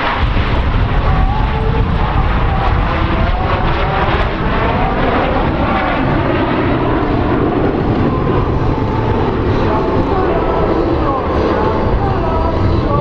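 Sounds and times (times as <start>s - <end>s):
jet planes flying past: 0.0s - 13.0s.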